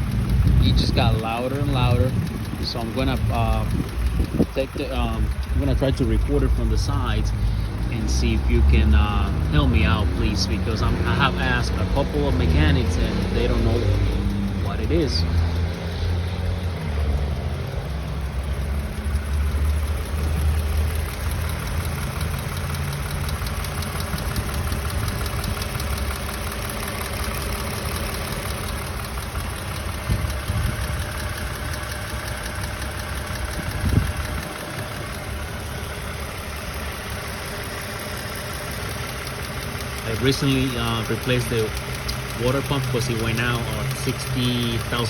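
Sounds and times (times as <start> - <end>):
car engine idling: 0.0 - 45.0
engine ticking: 0.0 - 45.0.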